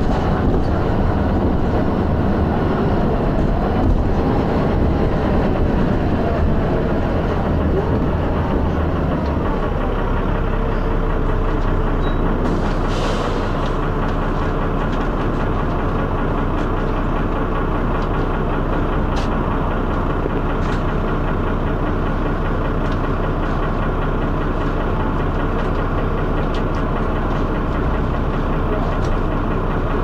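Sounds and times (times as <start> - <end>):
diesel bus engine knocking: 0.0 - 30.0.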